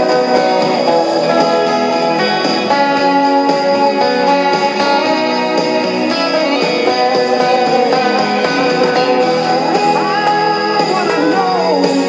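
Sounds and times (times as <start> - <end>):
backing music: 0.0 - 12.0
electric guitar lead solo: 0.0 - 12.0.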